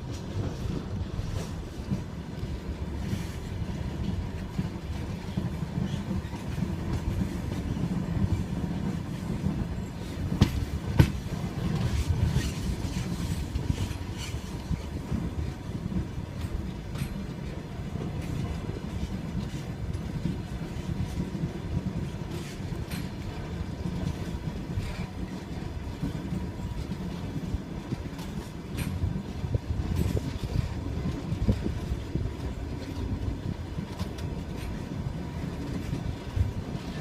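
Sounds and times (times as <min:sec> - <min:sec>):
train wheels rumbling on rails: 0:00.0 - 0:37.0
wheels clicking over rail joints: 0:00.0 - 0:37.0.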